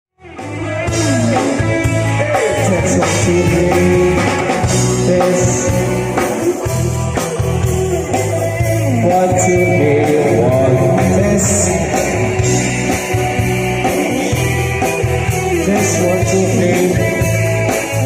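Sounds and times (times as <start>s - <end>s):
rock music with singing: 0.2s - 18.0s.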